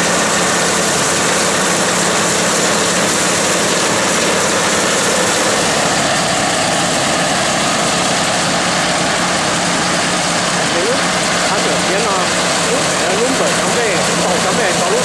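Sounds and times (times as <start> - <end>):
combine threshing rushing noise: 0.0 - 15.0
tractor diesel engine hum: 0.0 - 15.0.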